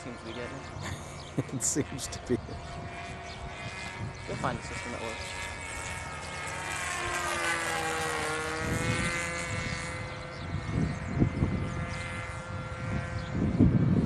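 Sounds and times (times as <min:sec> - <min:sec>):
model airplane engine whining: 0:00.0 - 0:14.0
wind buffeting microphone: 0:00.0 - 0:14.0.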